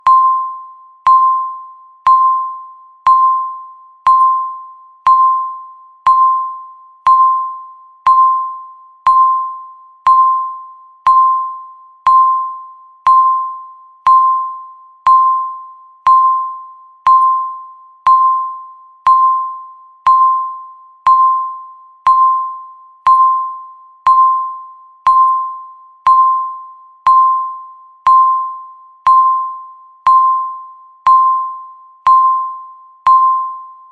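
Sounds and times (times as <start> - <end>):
timer beeps: 0.0 - 33.9.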